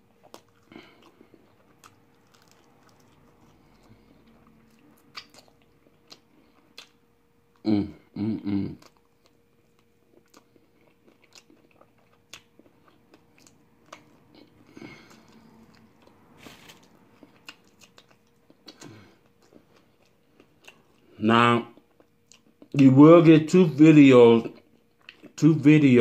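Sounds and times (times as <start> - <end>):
person chewing with mouth clicks: 0.0 - 22.9, 24.4 - 25.4.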